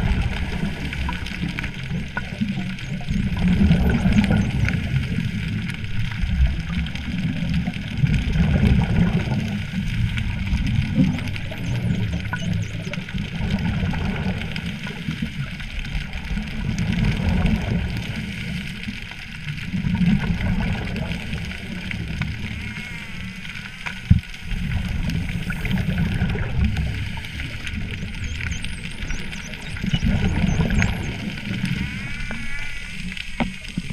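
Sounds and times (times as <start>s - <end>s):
underwater regulator bubbling: 0.0s - 18.6s, 19.7s - 33.9s.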